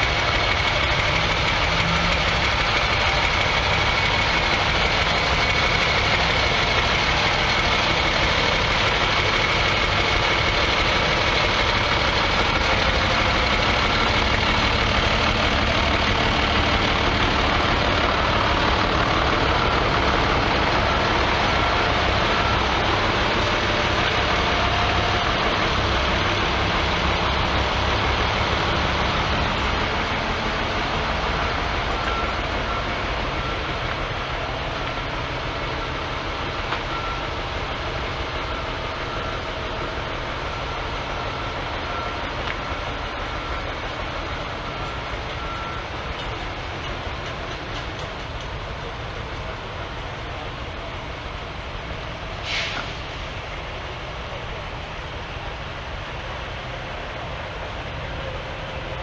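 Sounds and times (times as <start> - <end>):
tractor engines idling: 0.0 - 59.0.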